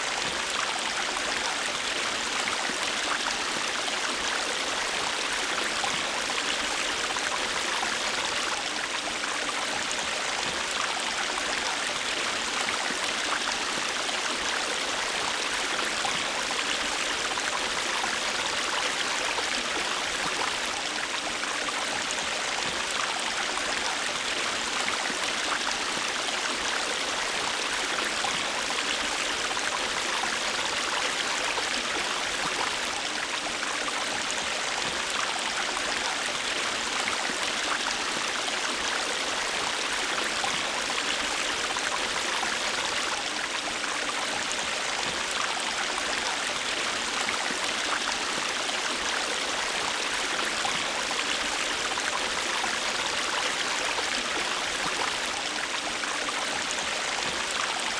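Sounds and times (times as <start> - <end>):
river water flowing over rocks: 0.0 - 57.9.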